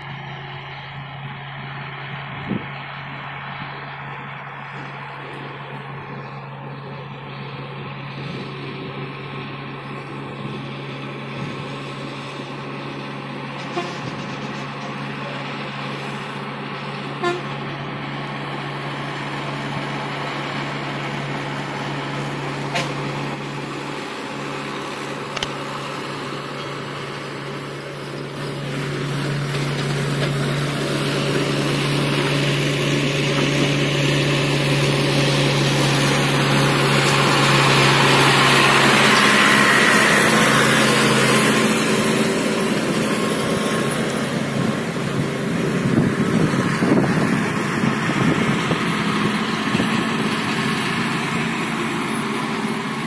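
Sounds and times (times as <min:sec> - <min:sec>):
diesel engine drone: 0:00.0 - 0:53.0.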